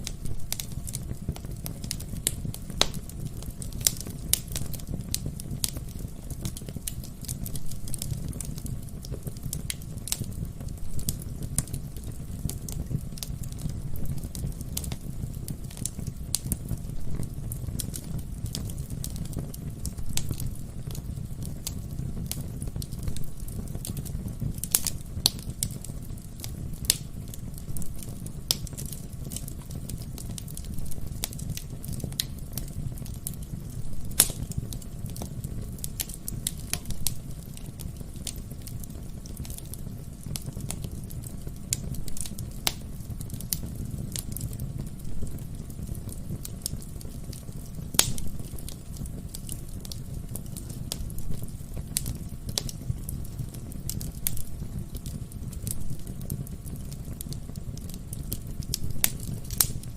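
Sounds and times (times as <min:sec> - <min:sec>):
fire flames rumbling: 0:00.0 - 0:59.9
logs crackling and popping: 0:00.0 - 0:59.9.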